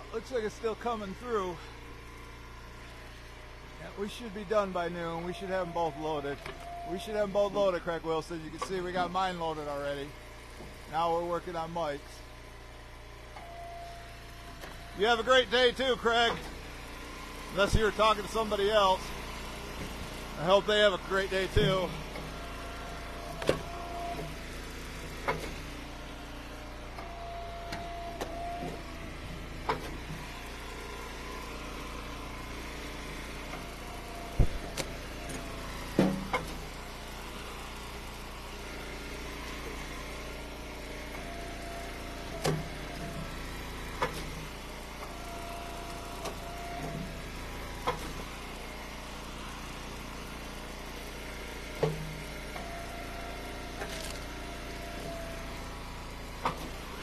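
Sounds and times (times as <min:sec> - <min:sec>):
hydraulic ram whine: 0:00.0 - 0:57.0
wood splitter engine running: 0:00.0 - 0:57.0.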